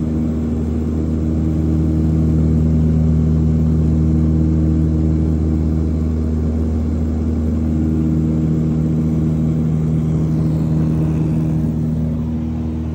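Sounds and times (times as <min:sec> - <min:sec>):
propeller airplane engine droning: 0:00.0 - 0:12.9.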